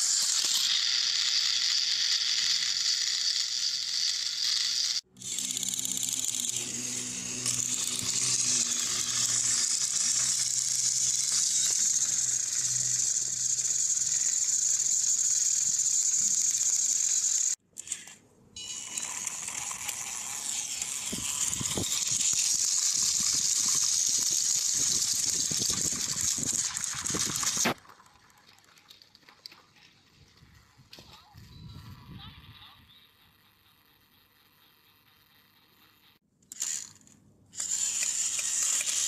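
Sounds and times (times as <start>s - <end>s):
toy train motors whirring: 0.0s - 39.0s.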